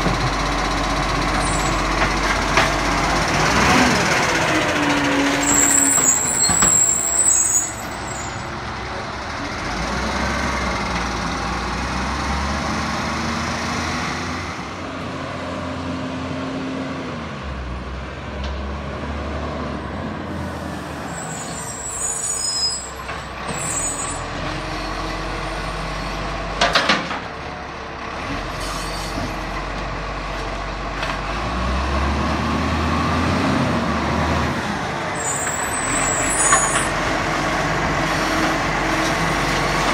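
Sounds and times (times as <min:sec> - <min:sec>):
diesel truck engine revving: 0:00.0 - 0:22.4, 0:29.2 - 0:39.9.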